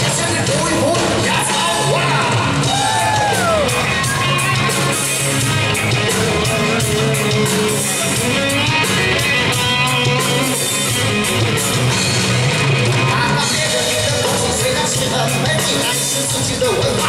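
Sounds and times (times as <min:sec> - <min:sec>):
bass guitar: 0:00.0 - 0:17.0
drum kit with cymbal beat: 0:00.0 - 0:17.0
electric guitar melody: 0:00.0 - 0:17.0.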